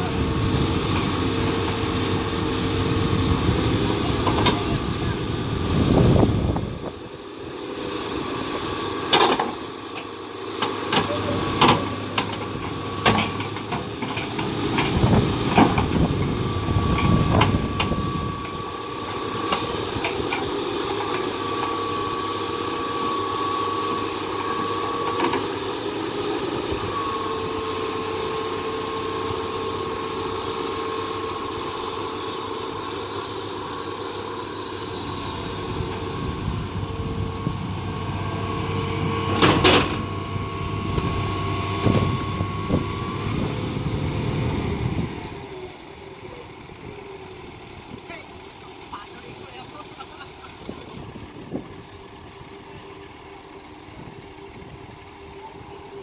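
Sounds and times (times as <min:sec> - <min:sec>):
hydraulic whine: 0:00.0 - 0:48.9
diesel engine running: 0:00.0 - 0:56.0.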